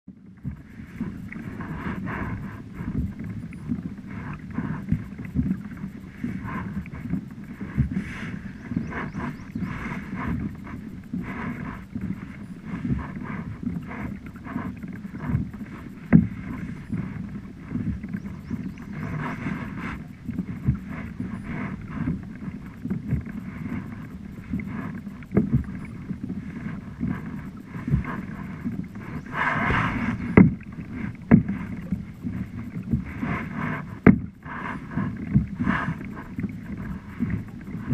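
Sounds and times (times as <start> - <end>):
paddle splashing in water: 0.2 - 37.9.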